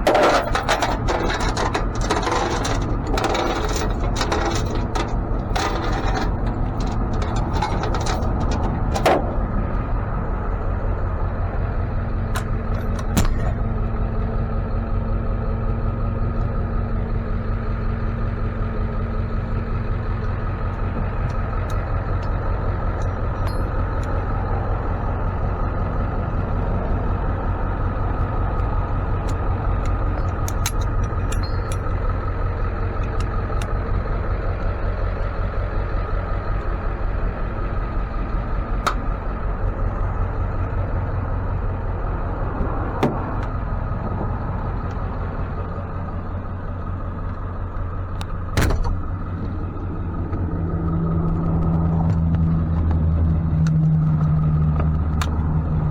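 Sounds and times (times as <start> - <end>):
engine humming: 0.0 - 55.9.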